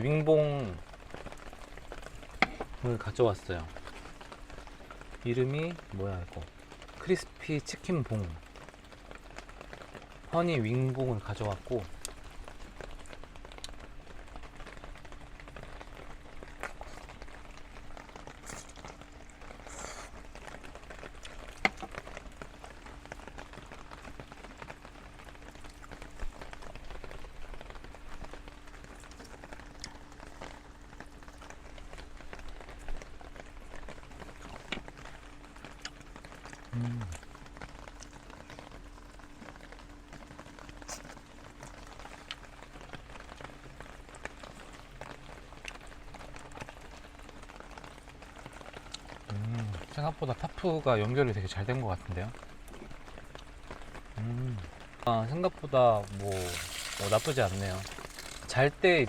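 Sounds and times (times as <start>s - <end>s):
faint steady hum: 0.0s - 59.0s
rain on a tarp: 0.0s - 59.0s.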